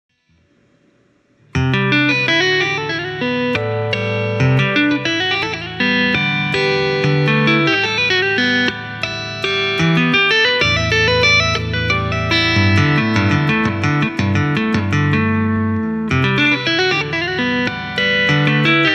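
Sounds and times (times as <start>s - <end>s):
electric guitar tapping: 1.5s - 18.9s.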